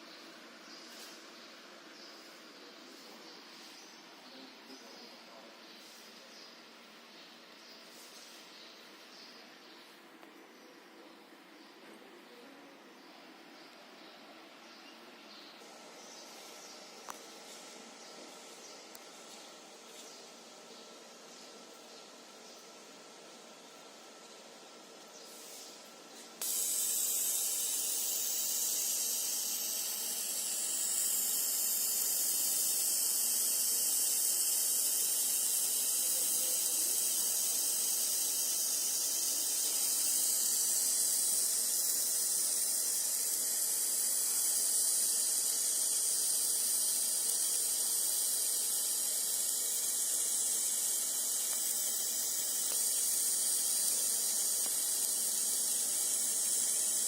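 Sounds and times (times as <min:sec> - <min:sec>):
laser marking machine hiss: 0:00.0 - 0:10.0, 0:15.4 - 0:57.0.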